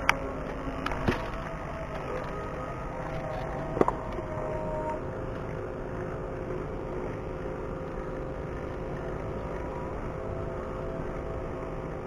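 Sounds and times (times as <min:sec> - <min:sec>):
faint engine hum: 0:00.0 - 0:12.0
low rumble: 0:00.0 - 0:12.0.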